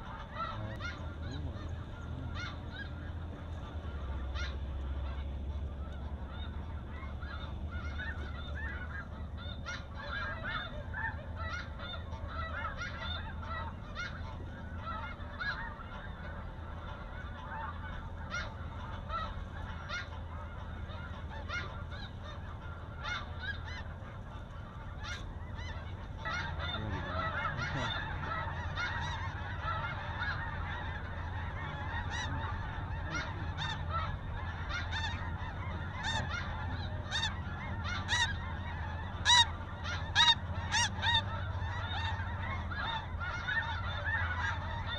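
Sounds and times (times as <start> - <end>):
geese honking: 0.0 - 44.9
steady low rumble: 0.0 - 44.9.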